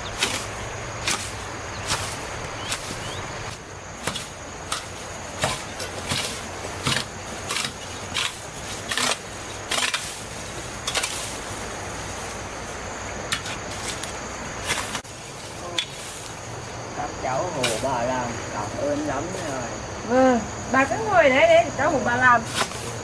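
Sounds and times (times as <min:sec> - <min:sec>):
sweeping strokes on ground: 0:00.0 - 0:19.8.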